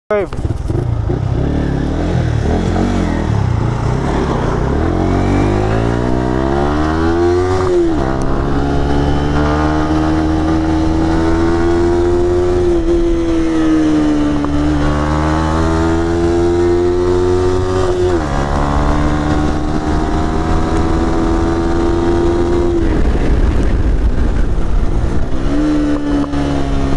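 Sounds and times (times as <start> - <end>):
motorcycle engine revving: 0.2 - 26.9.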